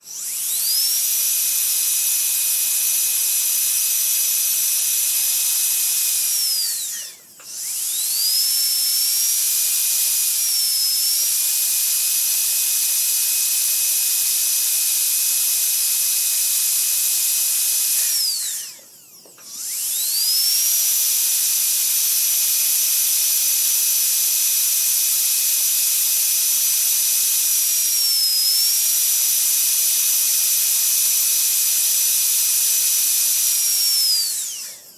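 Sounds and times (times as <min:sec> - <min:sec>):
dentist's drill whining: 0:00.0 - 0:34.9.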